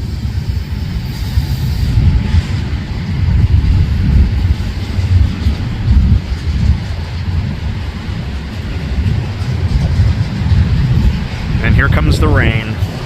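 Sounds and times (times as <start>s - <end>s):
freight train low rumble: 0.0s - 13.0s
wind buffeting microphone: 0.0s - 13.0s.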